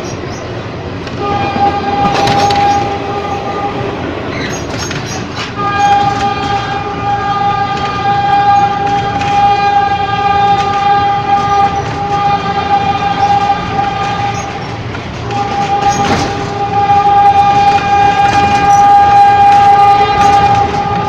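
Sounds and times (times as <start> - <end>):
electric train running on rails: 0.0 - 21.0.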